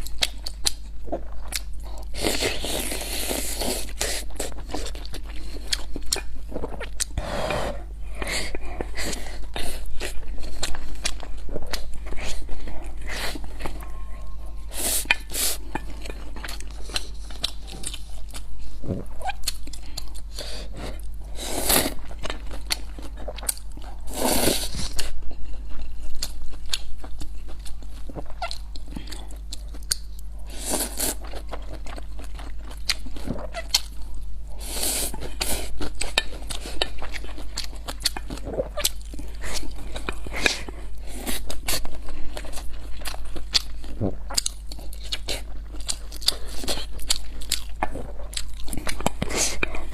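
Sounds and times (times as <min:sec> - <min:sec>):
chewing and wet mouth noises: 0:00.0 - 0:07.2, 0:08.0 - 0:21.2, 0:21.8 - 0:49.9
steady low hum: 0:00.0 - 0:49.9.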